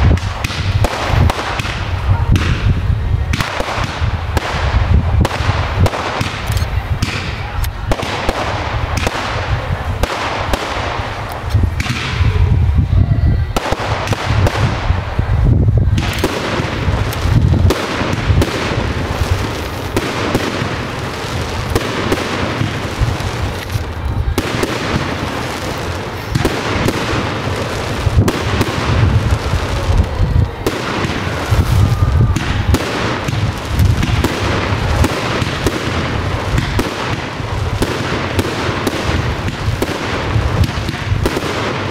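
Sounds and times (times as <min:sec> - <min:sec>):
fireworks barrage: 0:00.0 - 0:41.9.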